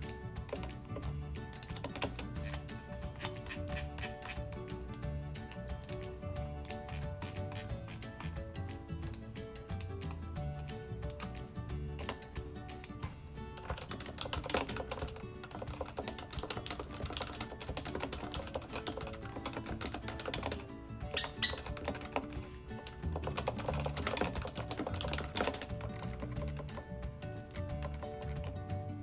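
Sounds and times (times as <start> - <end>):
keyboard typing clicks: 0.0 - 8.4, 11.0 - 11.4, 12.0 - 28.6
background music: 0.0 - 29.0.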